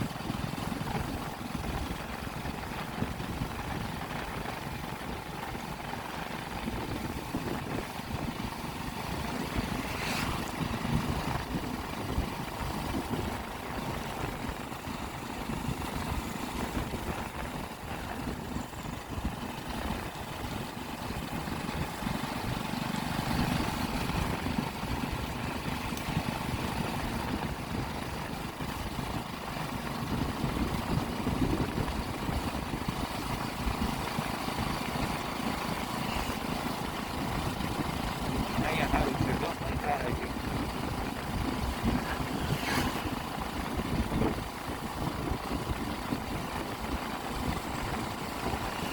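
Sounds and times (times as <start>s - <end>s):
wind rush: 0.0s - 35.1s, 37.2s - 48.9s
motorcycle engine running: 0.0s - 48.9s
road noise: 0.0s - 48.9s.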